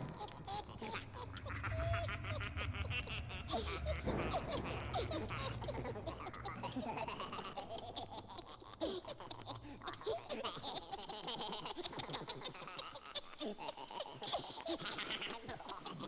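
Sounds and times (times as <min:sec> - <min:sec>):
spooky cackling laughter: 0:00.0 - 0:16.0.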